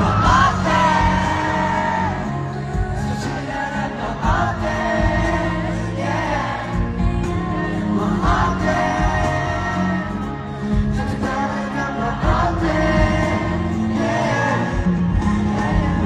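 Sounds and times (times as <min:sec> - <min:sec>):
live concert music: 0:00.0 - 0:16.0.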